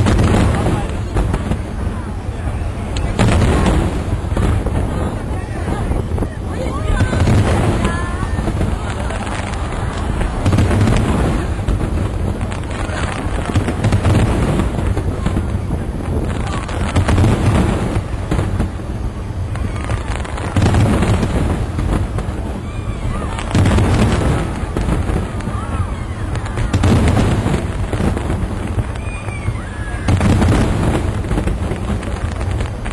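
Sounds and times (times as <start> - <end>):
fireworks booming: 0.0 - 32.9
fireworks crackling: 0.0 - 32.9.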